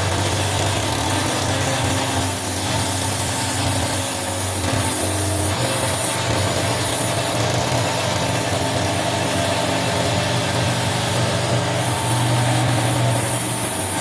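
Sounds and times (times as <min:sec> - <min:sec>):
wood lathe running: 0:00.0 - 0:14.0.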